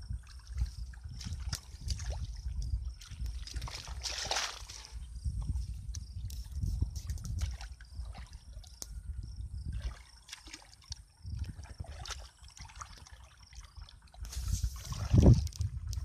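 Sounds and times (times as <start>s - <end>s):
hands sloshing in muddy water: 0.0s - 8.8s, 9.6s - 16.0s
water trickles and splashes: 0.0s - 16.0s.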